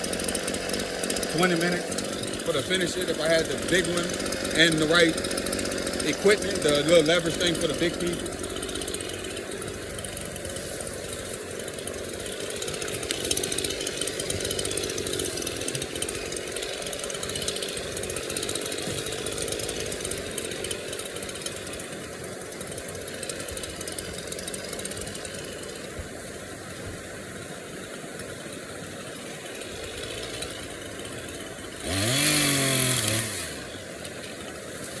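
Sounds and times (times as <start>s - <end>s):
chainsaw running and revving: 0.0s - 35.0s.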